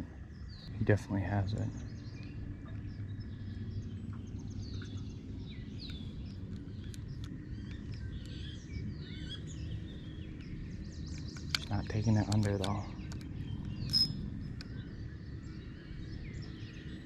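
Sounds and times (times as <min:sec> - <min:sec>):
songbirds chirping and whistling: 0:00.0 - 0:17.0
steady low hum: 0:00.0 - 0:17.0.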